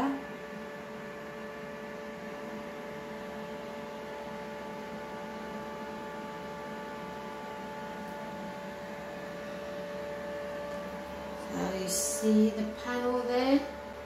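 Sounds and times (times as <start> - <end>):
steady hum of fixed tones: 0.0 - 14.0.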